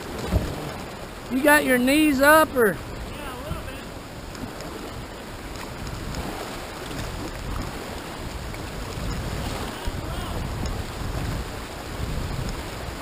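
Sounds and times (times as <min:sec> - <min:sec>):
creek water rushing: 0:00.0 - 0:13.0
wind rumbling on microphone: 0:00.0 - 0:13.0.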